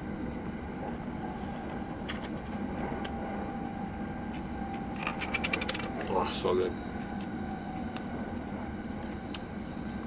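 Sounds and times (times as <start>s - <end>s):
faint steady whine: 0.0s - 10.0s
train rumbling inside passenger car: 0.0s - 10.0s.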